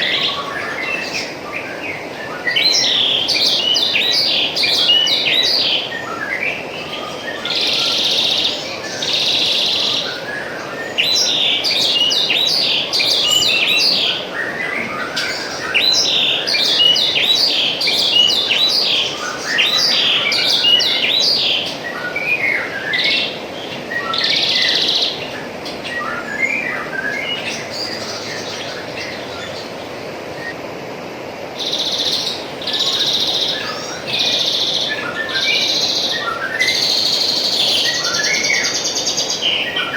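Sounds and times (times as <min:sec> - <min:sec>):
small birds chirping: 0:00.0 - 0:30.6, 0:31.5 - 0:39.9.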